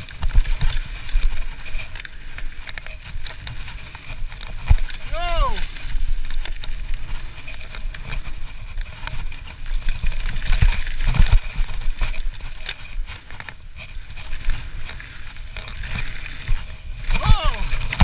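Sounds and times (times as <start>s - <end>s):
bike clicks and rattles: 0.0s - 18.0s
tyres rumbling over gravel: 0.0s - 18.0s
wind buffeting microphone: 0.0s - 18.0s.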